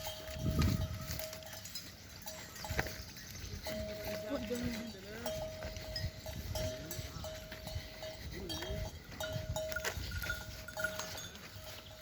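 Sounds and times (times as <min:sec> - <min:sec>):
livestock bells clanking: 0:00.0 - 0:12.0.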